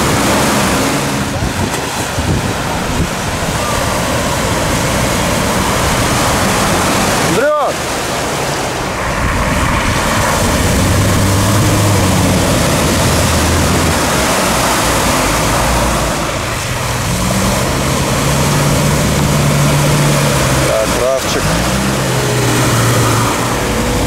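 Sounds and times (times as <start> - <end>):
car engine working hard: 0.0 - 24.0
loud rushing noise: 0.0 - 24.0
wheels churning mud: 0.0 - 24.0.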